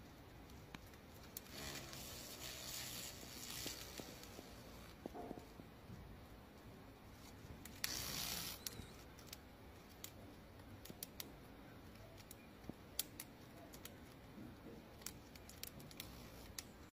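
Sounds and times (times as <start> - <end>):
rustling hiss: 0.0 - 16.9.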